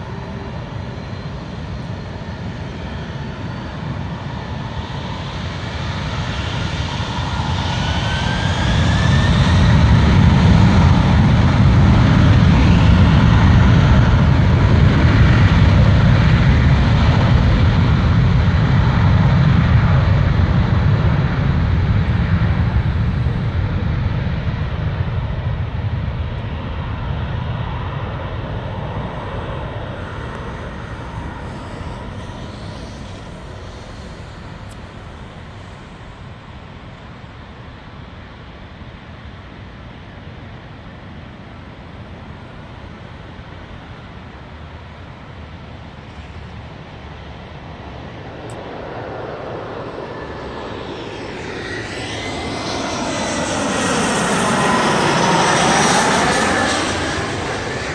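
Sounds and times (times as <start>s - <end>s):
jet airliner engines: 0.0s - 57.9s.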